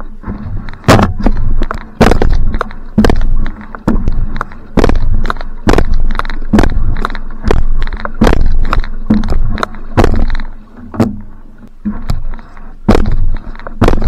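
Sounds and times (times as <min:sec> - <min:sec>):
paddle strokes splashing water: 0:00.0 - 0:14.0
water rumble: 0:00.0 - 0:14.0
wind: 0:00.0 - 0:14.0.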